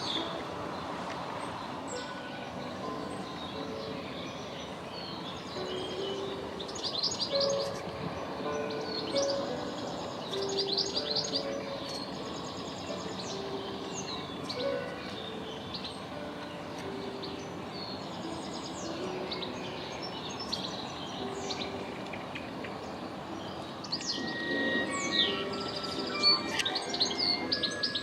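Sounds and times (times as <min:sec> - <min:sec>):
birds chirping: 0:00.0 - 0:28.0
steady background noise: 0:00.0 - 0:28.0.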